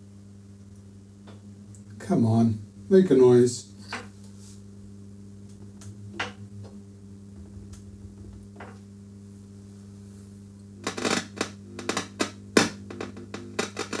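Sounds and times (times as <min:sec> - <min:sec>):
amp crackling and popping: 0:00.6 - 0:14.0
guitar amp humming: 0:01.2 - 0:14.0.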